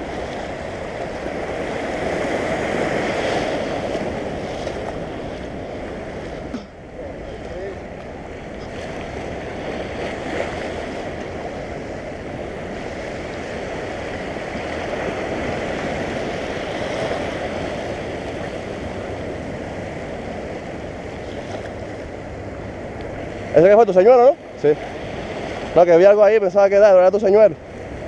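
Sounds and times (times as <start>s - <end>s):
waves washing over rocks: 0.0s - 28.0s.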